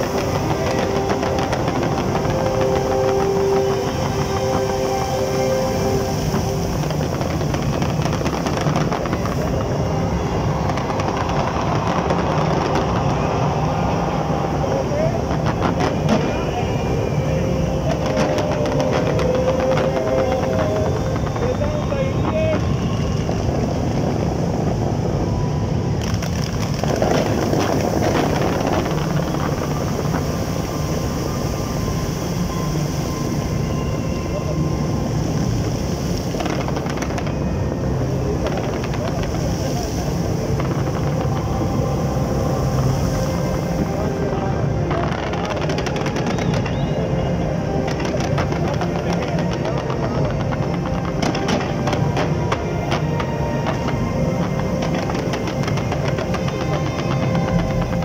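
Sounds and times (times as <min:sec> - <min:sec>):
firework explosions crackling: 0:00.0 - 0:58.0.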